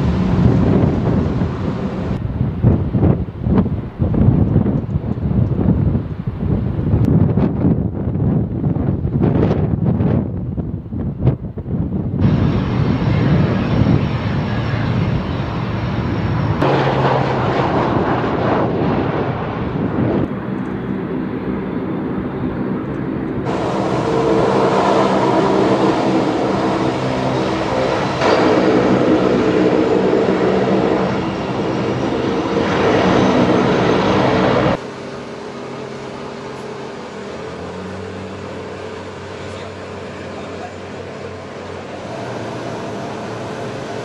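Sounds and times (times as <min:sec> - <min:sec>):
turboprop engines droning: 0:00.0 - 0:44.0.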